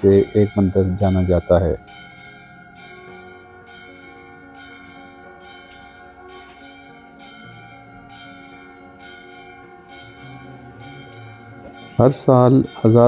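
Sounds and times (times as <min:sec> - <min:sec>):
bells struck ringing: 0:00.0 - 0:13.0
low shifting notes: 0:00.0 - 0:13.0.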